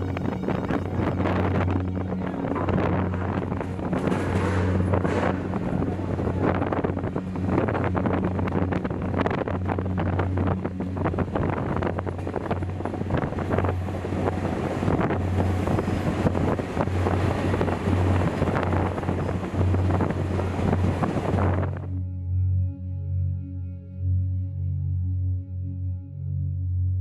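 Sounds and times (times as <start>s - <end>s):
train rumbling and clattering: 0.0s - 22.0s
wind buffeting microphone: 0.0s - 22.0s.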